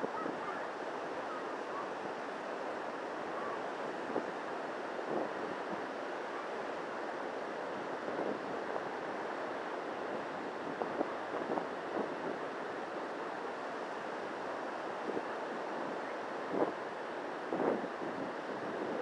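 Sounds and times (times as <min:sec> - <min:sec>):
wind buffeting the microphone: 0:00.0 - 0:06.2, 0:07.6 - 0:13.1, 0:14.6 - 0:19.0
surf washing on a beach: 0:00.0 - 0:19.0.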